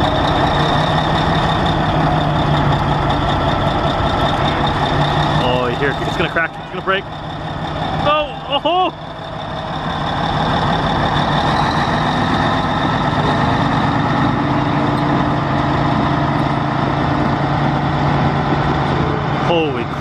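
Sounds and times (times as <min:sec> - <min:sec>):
bulldozer diesel engine under load: 0:00.0 - 0:20.0.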